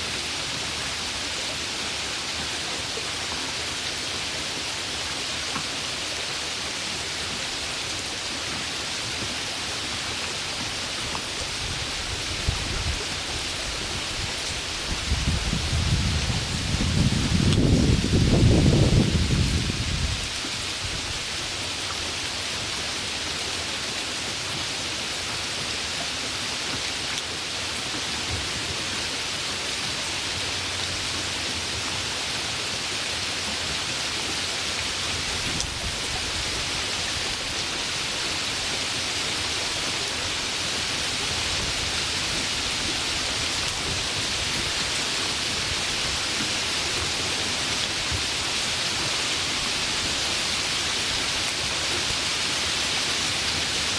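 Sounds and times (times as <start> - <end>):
steady rain hiss: 0.0 - 53.9.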